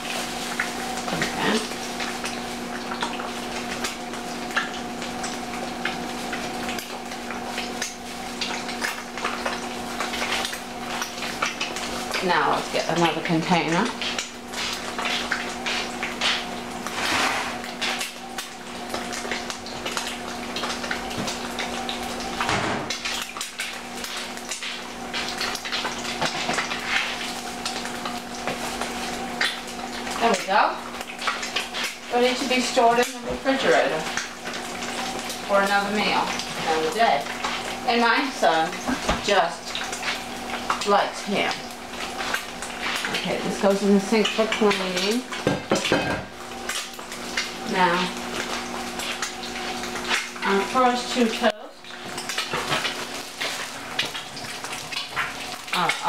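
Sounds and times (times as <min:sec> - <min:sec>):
eggs frying in a pan: 0:00.0 - 0:56.0.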